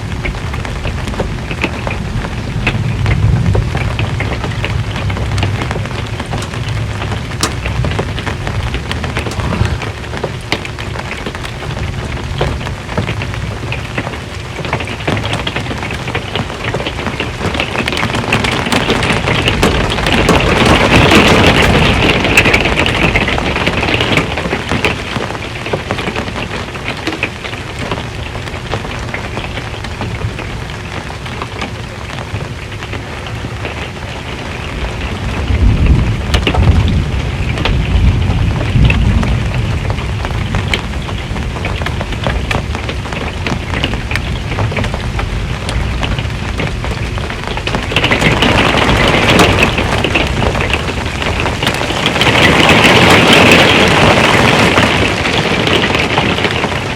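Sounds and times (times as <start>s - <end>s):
rain drumming on metal roof: 0.0s - 56.9s
thunder rumble: 0.0s - 56.9s.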